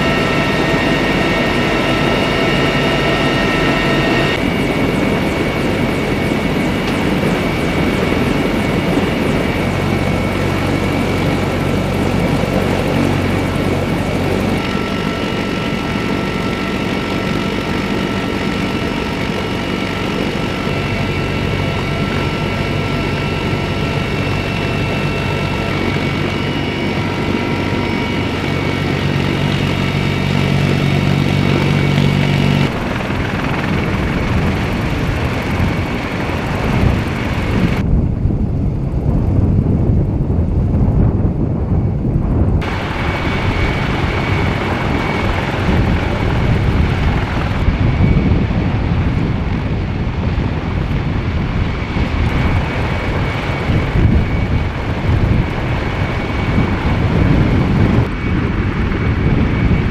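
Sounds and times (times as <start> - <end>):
helicopter engine whine: 0.0 - 59.9
rotor rumble: 0.0 - 59.9.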